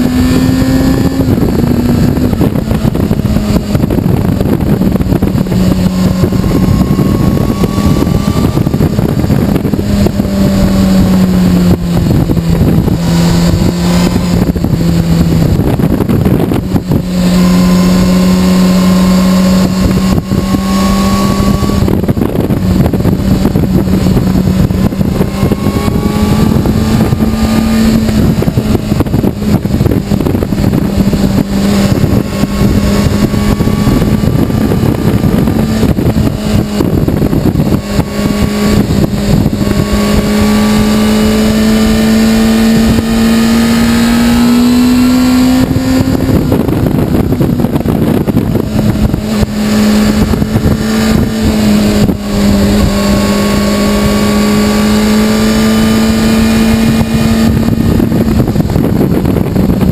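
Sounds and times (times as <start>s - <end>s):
motorcycle engine cruising: 0.0s - 59.9s
wind rushing: 0.0s - 59.9s.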